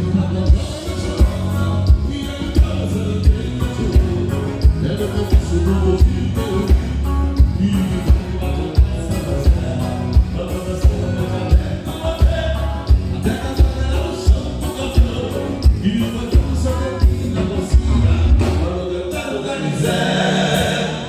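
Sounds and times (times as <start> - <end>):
bass drum beat: 0.0 - 18.9
dance band playing: 0.0 - 21.0.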